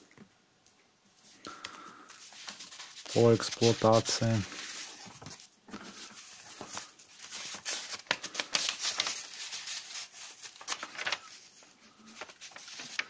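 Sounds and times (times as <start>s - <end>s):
paper pages rustling and flicking: 2.1s - 13.0s.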